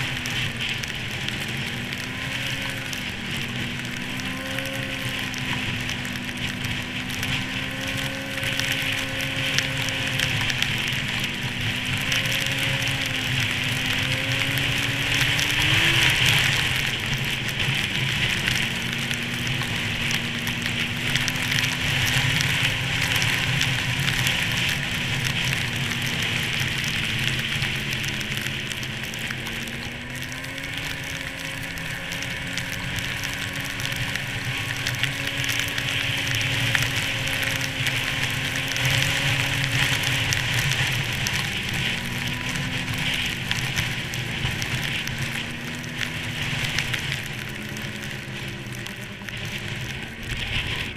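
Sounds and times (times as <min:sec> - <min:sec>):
rushing wind and snow: 0:00.0 - 0:50.9
snowmobile engine running: 0:00.0 - 0:50.9.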